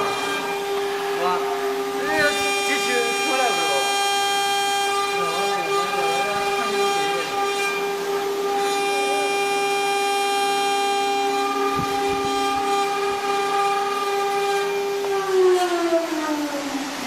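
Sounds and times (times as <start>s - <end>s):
engraving machine spindle whine: 0.0s - 17.0s.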